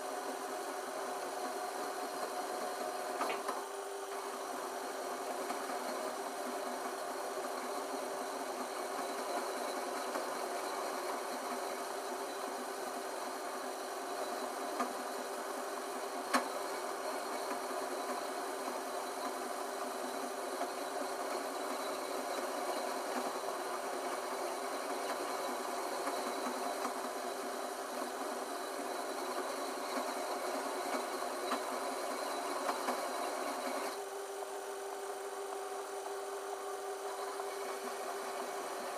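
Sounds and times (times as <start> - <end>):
lathe humming: 0.0 - 38.9.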